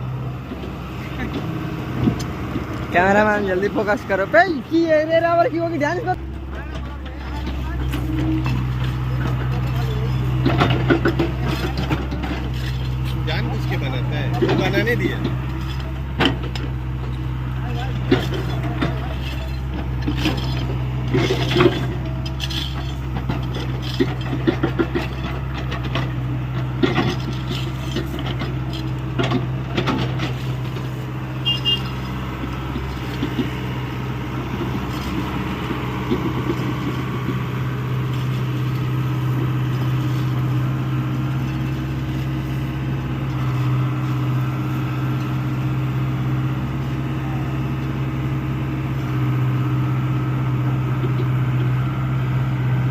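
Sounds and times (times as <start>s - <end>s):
excavator engine droning: 0.0s - 52.9s.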